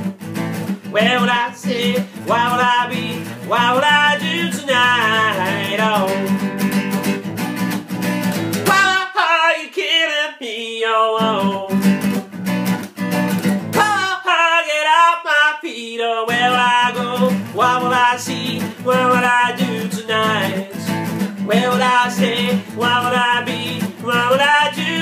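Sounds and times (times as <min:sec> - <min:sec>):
strummed acoustic guitar: 0:00.0 - 0:25.0
man singing: 0:00.9 - 0:06.7, 0:08.6 - 0:12.1, 0:13.7 - 0:25.0.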